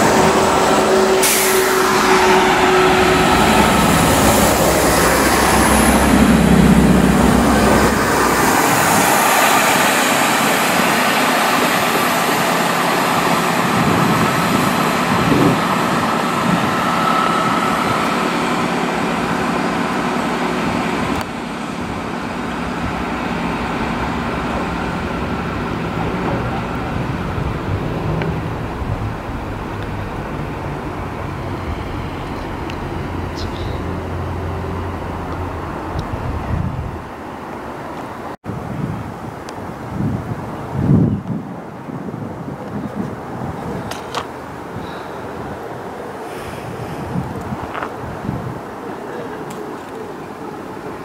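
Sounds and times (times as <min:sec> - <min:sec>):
train wheels on rails: 0:00.0 - 0:38.3, 0:42.6 - 0:51.0
diesel train engine drone: 0:00.0 - 0:51.0.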